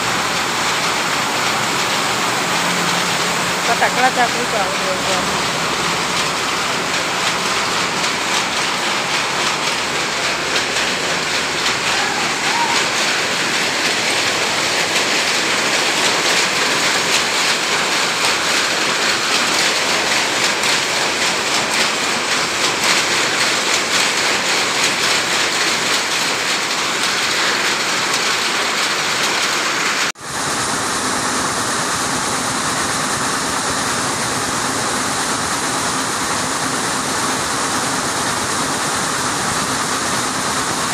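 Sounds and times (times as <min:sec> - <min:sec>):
power looms clattering: 0:00.0 - 0:40.9
single weaving loom running: 0:00.0 - 0:40.9.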